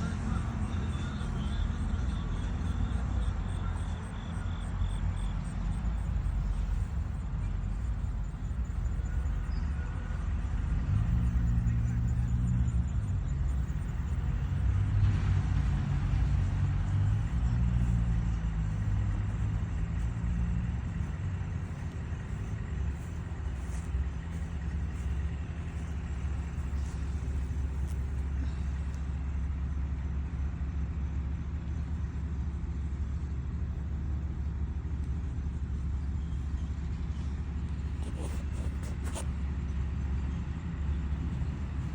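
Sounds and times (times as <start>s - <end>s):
vehicle engine rumble: 0.0s - 41.9s.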